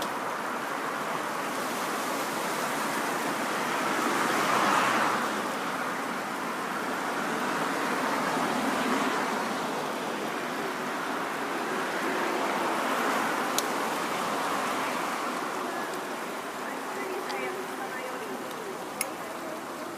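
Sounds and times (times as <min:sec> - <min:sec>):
surf waves washing: 0:00.0 - 0:19.9.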